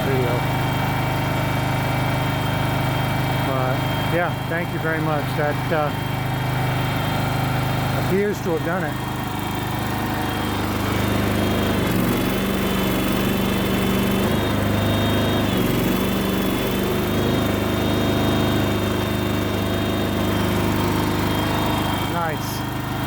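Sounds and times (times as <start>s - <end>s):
mini loader engine running: 0.0s - 23.0s.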